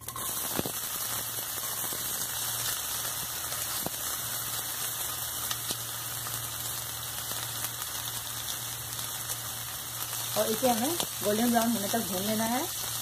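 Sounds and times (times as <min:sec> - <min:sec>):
faint pops of frying: 0:00.0 - 0:13.0
onion sizzling in hot fat: 0:00.0 - 0:13.0.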